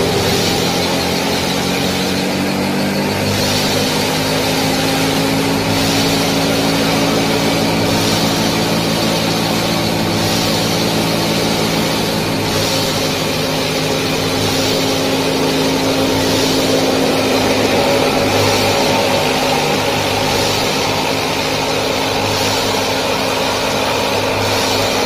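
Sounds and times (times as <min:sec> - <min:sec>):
small motor running: 0:00.0 - 0:25.0.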